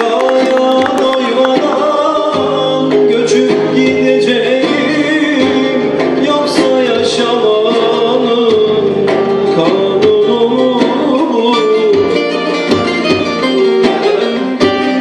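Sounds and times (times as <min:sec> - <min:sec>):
drums: 0:00.0 - 0:15.0
man singing: 0:00.0 - 0:15.0
oud and plucked strings: 0:00.0 - 0:15.0.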